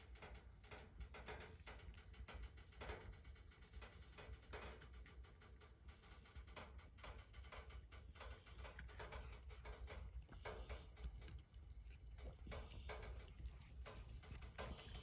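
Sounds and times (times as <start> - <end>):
faint low hum: 0.0 - 15.0
cat lapping water: 0.6 - 15.0.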